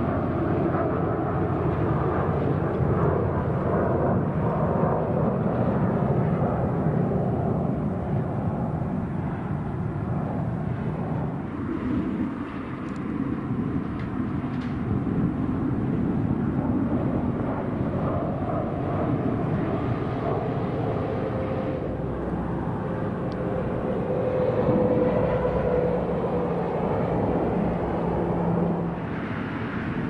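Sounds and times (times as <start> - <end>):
aircraft engines rumbling: 0.0 - 30.0.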